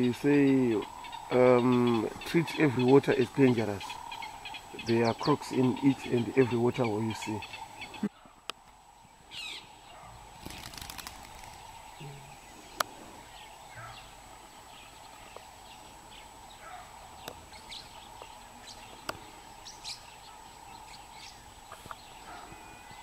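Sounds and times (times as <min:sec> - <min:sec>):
bird chirps and calls: 0:00.0 - 0:08.3, 0:09.3 - 0:23.0
steady background hum: 0:00.0 - 0:23.0.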